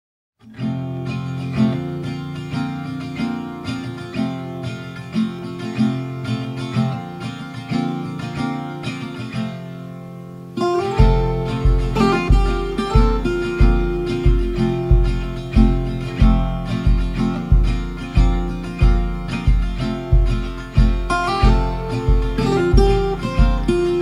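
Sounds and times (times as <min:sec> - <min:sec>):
plucked instrumental music: 0:00.4 - 0:24.0.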